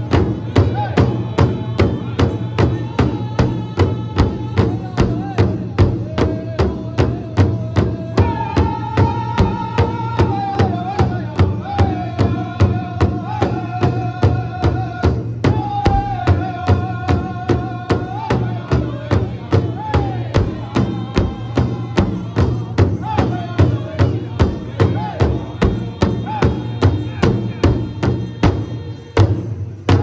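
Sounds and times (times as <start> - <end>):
group singing in high voices: 0.0 - 30.0
large drum steady beat: 0.0 - 30.0.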